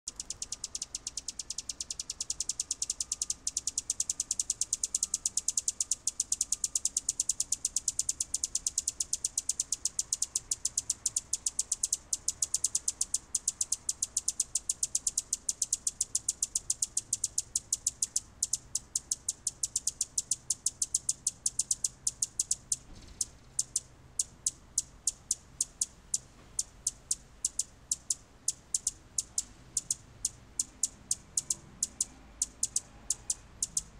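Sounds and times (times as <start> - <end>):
hummingbird nestlings chirping: 0.1 - 33.9.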